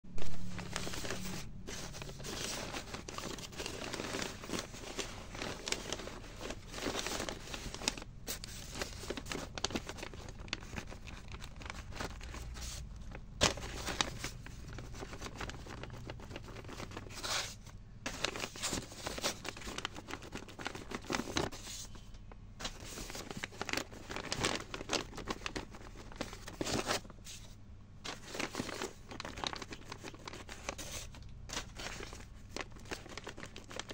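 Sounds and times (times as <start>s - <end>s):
paper rustling and tearing: 0.2s - 22.0s, 22.6s - 33.9s.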